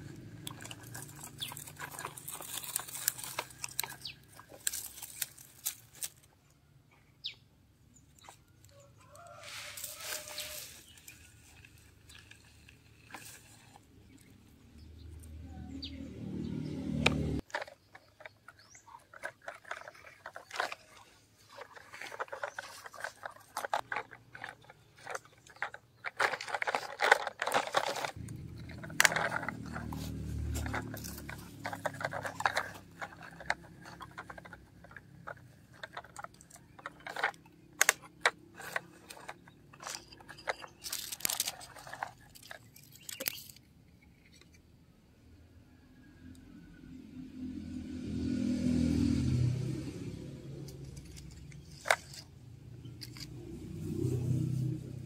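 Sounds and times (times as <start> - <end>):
toy vehicles scraping over gravel: 0.0 - 6.4, 8.2 - 44.6, 48.0 - 55.0.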